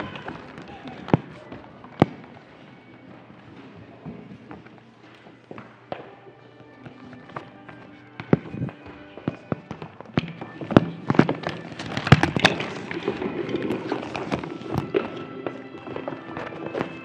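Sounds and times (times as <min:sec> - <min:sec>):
footsteps on wooden stage: 0:00.0 - 0:17.0
soft background music: 0:00.0 - 0:17.0.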